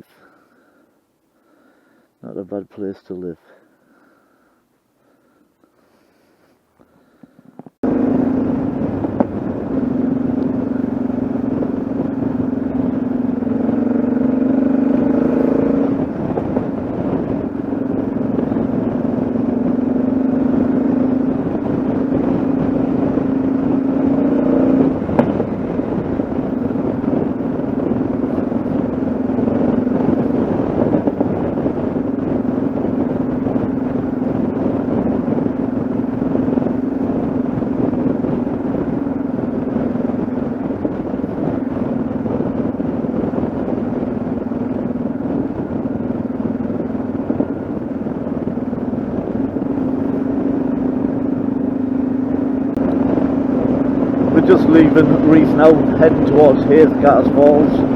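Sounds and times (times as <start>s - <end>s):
motorcycle engine running: 7.6s - 57.9s.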